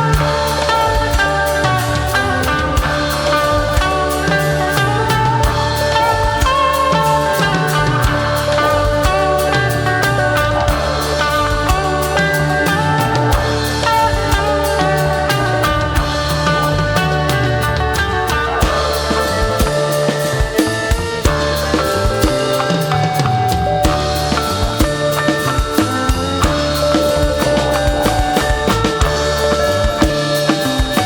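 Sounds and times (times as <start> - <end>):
drum kit beat: 0.0 - 31.0
electric guitar: 0.0 - 31.0.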